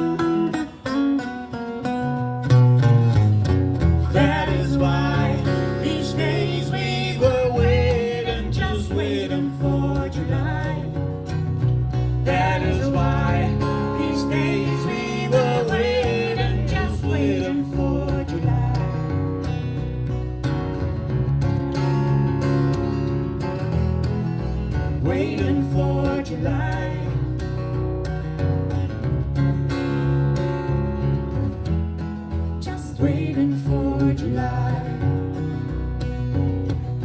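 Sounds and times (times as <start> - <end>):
plucked baritone guitar: 0.0 - 37.0.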